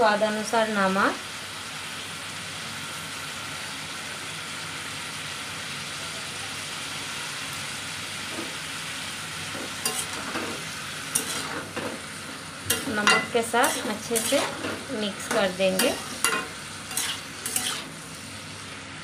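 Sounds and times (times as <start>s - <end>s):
papaya sizzling in a pan: 0.0s - 19.0s.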